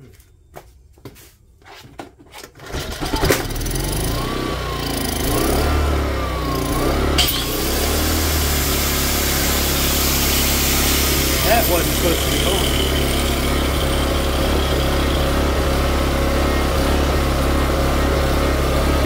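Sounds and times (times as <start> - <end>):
generator engine starting and running: 2.6 - 19.0.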